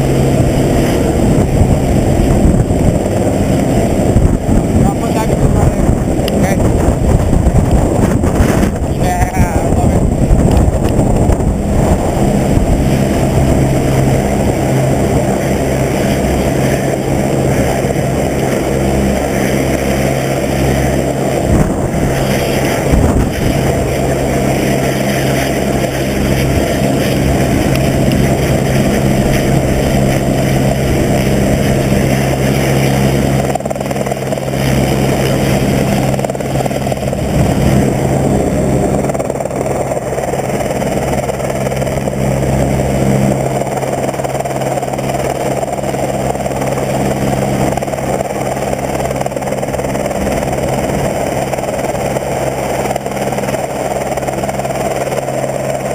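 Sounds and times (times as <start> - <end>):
helicopter droning: 0.0 - 55.9.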